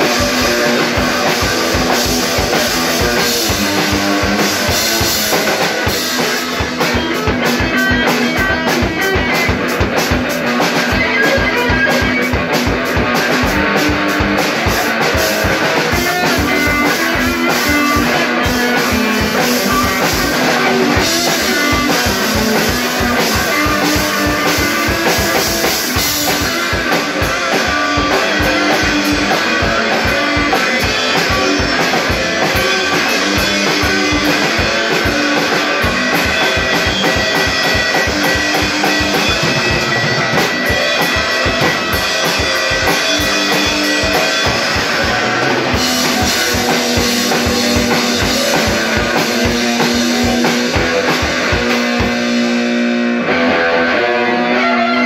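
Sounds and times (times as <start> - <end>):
fast drumming on drum kit: 0.0 - 53.5
electric guitars: 0.0 - 55.0.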